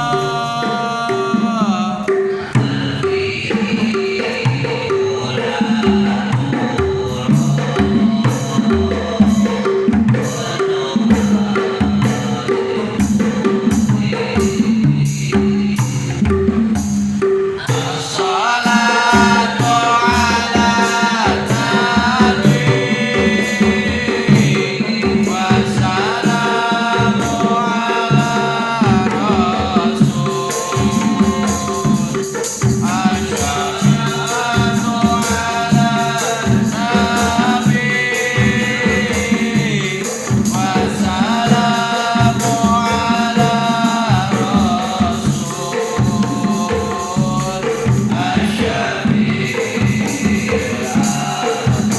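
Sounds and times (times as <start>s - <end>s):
solo voice singing: 0.0s - 16.7s, 17.4s - 51.9s
hand drums and tambourine: 0.0s - 51.9s.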